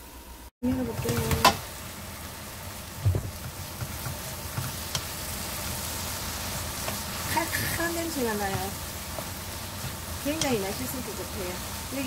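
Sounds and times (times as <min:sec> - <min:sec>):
peppers sizzling in a frying pan: 0:00.6 - 0:12.0.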